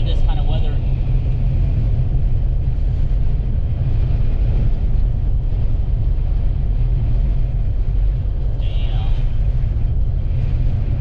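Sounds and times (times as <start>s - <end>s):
road noise: 0.0s - 11.0s
wind buffeting: 0.8s - 11.0s.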